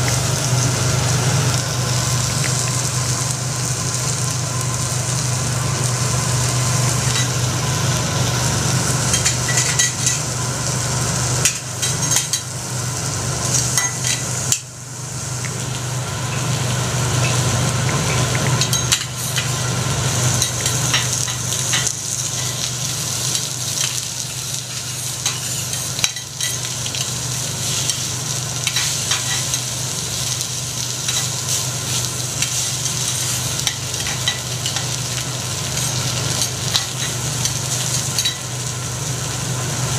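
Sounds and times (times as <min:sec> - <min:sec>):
food sizzling on griddle: 0:00.0 - 0:39.9
low steady hum: 0:00.0 - 0:39.9.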